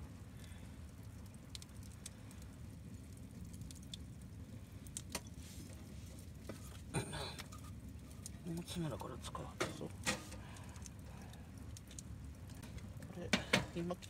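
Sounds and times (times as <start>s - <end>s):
fire crackling: 0.0s - 14.0s
low steady rumble: 0.0s - 14.0s.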